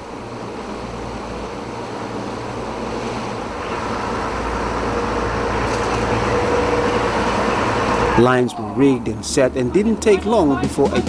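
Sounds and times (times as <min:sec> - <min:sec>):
boat engine drone: 0:00.0 - 0:11.0
sea noise: 0:00.0 - 0:11.0
wind: 0:00.0 - 0:11.0.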